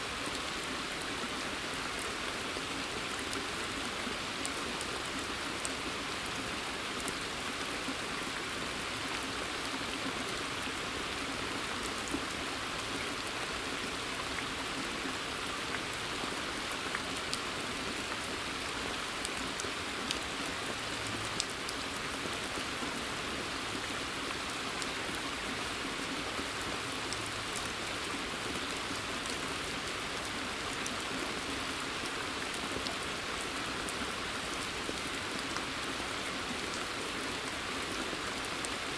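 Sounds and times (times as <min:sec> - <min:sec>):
rain on pond and foliage: 0:00.0 - 0:38.9.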